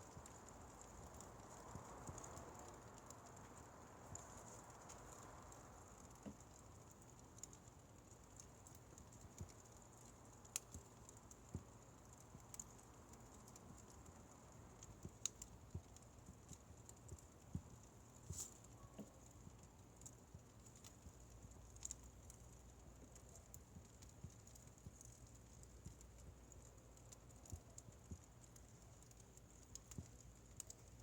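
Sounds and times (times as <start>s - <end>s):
fire crackling and popping: 0.0s - 31.0s
low steady hiss: 0.0s - 31.0s.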